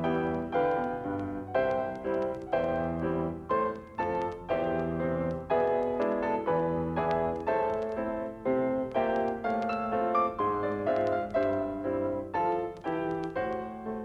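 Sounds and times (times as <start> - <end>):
solo piano chords: 0.0 - 14.0.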